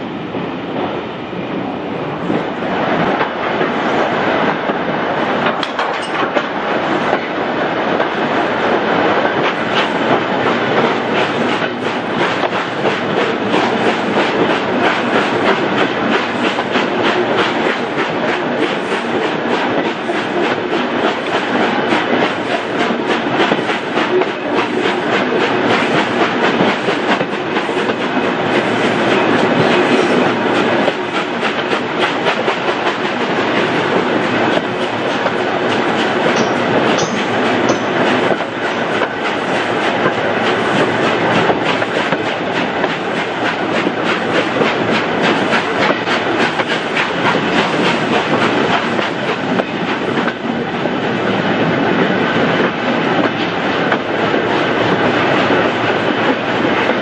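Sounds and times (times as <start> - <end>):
wheels clattering on rail: 2.2 - 57.0
steam train exhaust beats: 8.0 - 57.0.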